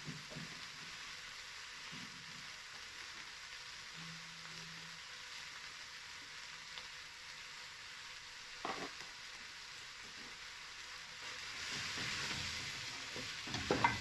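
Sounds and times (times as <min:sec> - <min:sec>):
leaves sizzling in a pan: 0:00.0 - 0:14.0.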